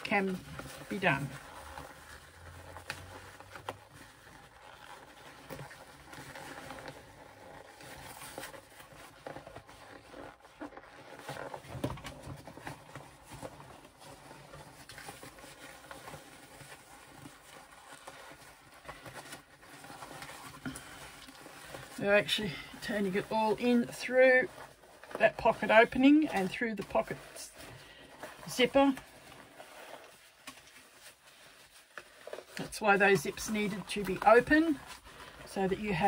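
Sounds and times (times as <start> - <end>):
fabric rustling and scuffing: 0.0 - 36.0.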